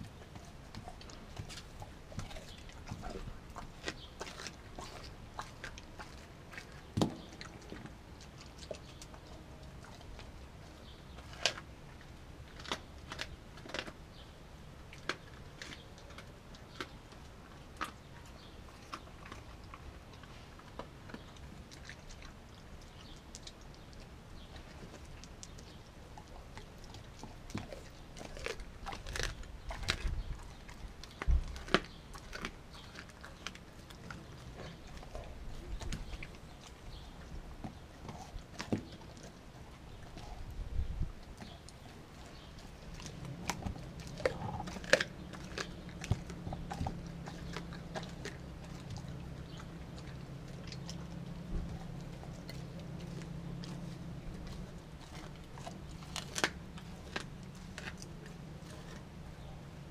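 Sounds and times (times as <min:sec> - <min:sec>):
dog chewing meat and bone: 0:00.0 - 0:59.9.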